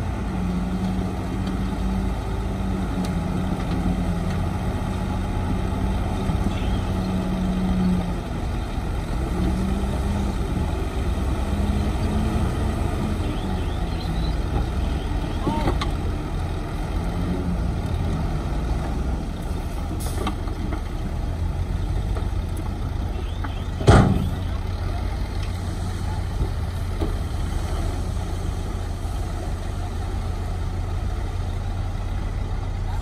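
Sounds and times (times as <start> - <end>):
diesel machinery engine drone: 0.0 - 33.0.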